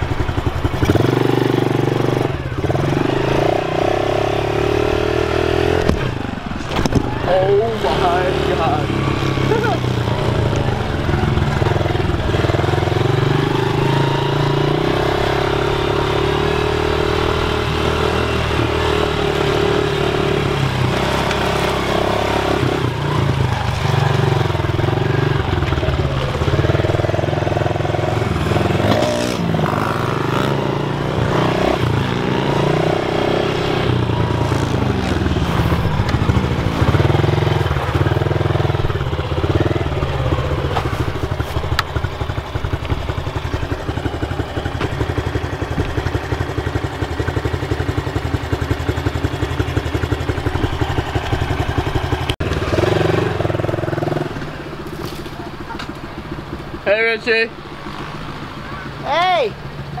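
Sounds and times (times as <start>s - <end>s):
pit bike engine revving: 0.0s - 60.0s.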